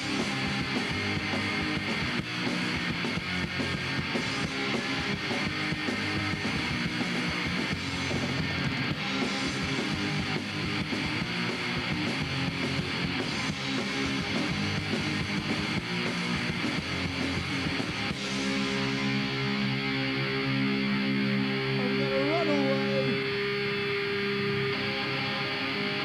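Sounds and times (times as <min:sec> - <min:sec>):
distorted electric guitar strumming: 0:00.0 - 0:26.0
punk rock band playing: 0:00.0 - 0:26.0.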